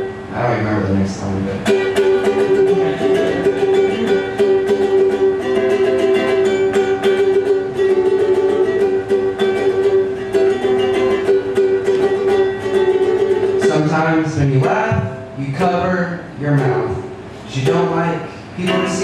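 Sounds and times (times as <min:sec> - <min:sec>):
ukulele strummed: 0:00.0 - 0:00.3, 0:01.4 - 0:19.0.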